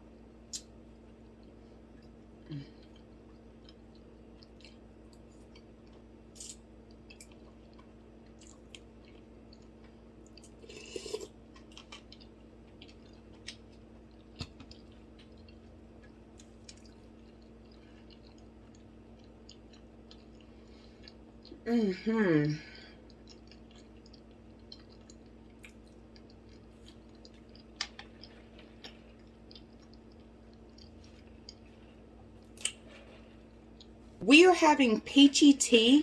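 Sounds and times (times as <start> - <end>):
crunchy chewing: 0.5 - 21.6, 23.0 - 34.2
person chewing: 0.5 - 21.6, 22.9 - 34.0.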